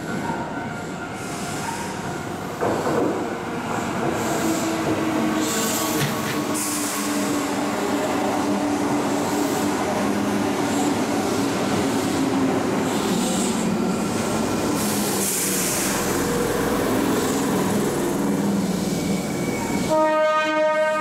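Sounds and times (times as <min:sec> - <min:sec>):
electric train rumbling on rails: 0:00.0 - 0:21.0.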